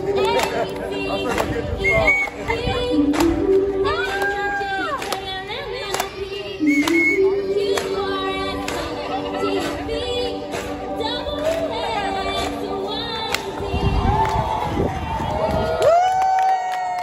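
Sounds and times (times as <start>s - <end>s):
voices singing together: 0.0s - 14.7s.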